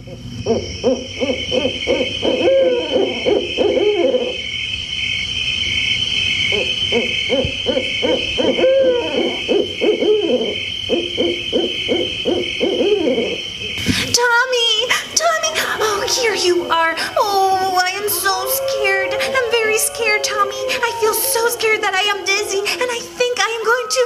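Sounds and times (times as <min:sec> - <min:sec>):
owls hooting: 0:00.0 - 0:05.0, 0:05.7 - 0:24.0.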